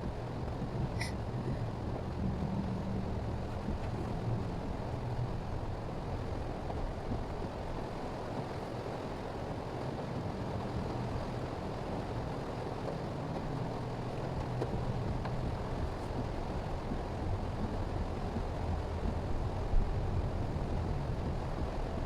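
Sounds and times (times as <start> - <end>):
tyres on wet road: 0.1 - 22.0.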